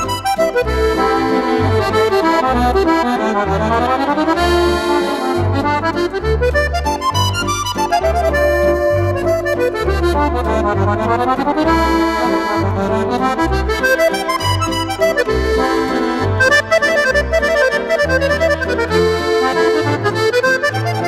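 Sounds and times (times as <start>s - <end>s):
accordion music: 0.0s - 21.0s.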